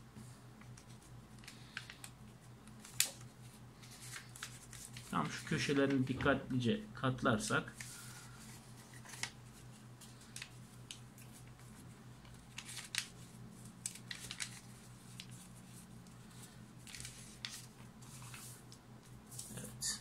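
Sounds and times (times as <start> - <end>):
paper rustling and crinkling: 0.6 - 6.4, 7.7 - 19.6.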